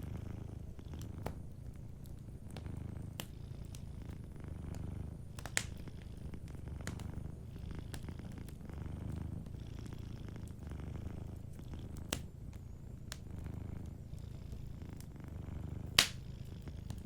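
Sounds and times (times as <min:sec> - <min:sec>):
cat purring: 0:00.0 - 0:17.0
wood fire crackling and popping: 0:00.4 - 0:17.0.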